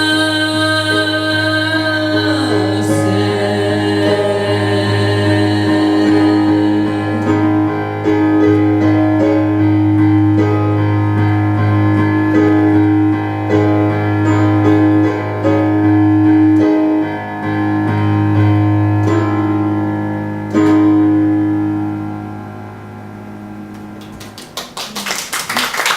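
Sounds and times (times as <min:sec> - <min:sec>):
piano playing chords: 0:00.0 - 0:25.2.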